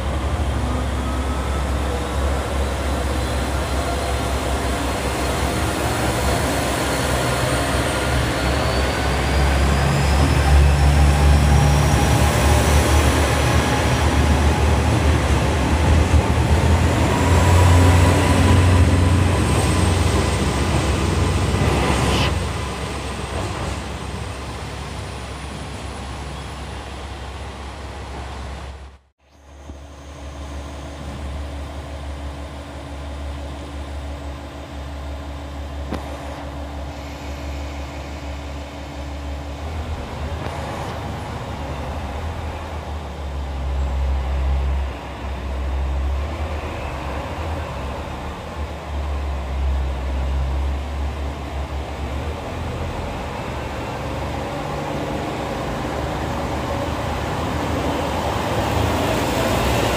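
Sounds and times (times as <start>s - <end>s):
diesel train engine rumble: 0.0s - 59.9s.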